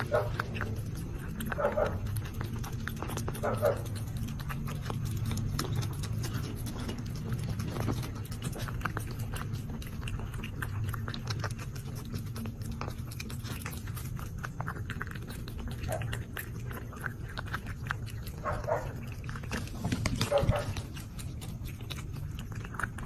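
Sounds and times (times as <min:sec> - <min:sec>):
cat chewing crunchy food: 0:00.0 - 0:23.0.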